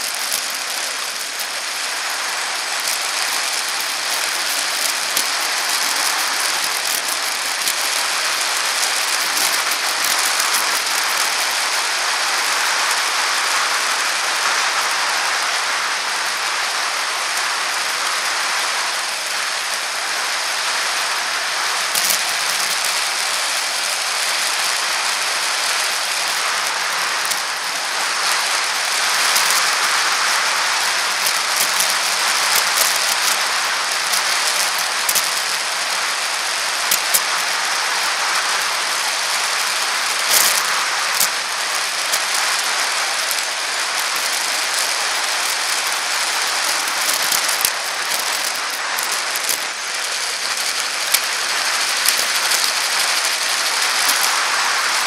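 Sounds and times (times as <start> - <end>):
bicycle rattling on bumps: 0.0 - 55.0
wind and tyre hiss: 0.0 - 55.0.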